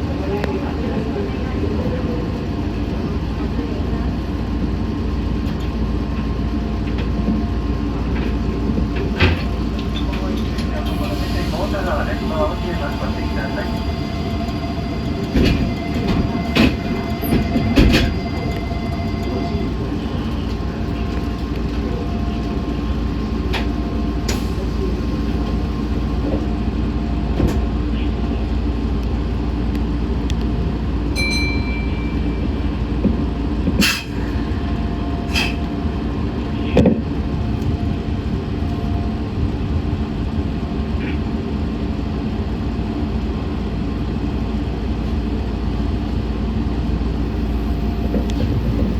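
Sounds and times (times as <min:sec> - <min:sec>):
train rumble from inside: 0:00.0 - 0:48.9.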